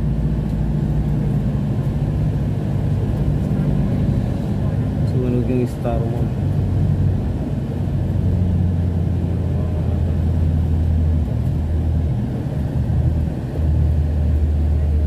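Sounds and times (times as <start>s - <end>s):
road rumble and engine hum: 0.0s - 15.0s.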